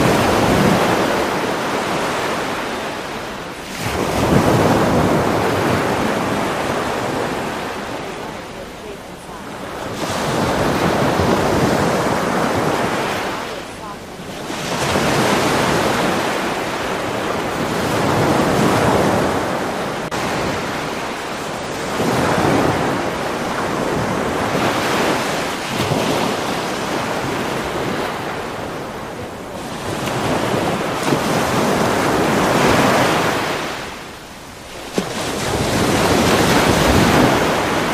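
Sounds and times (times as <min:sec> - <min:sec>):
ocean waves washing in: 0:00.0 - 0:37.9.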